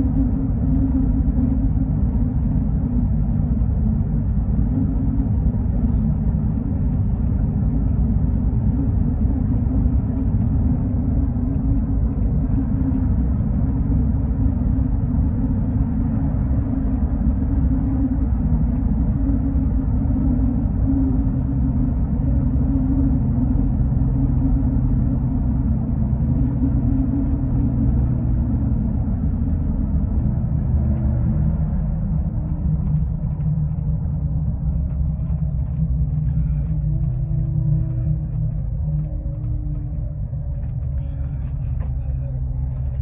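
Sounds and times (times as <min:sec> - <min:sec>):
bus engine drone: 0:00.0 - 0:43.0
road noise: 0:00.0 - 0:43.0.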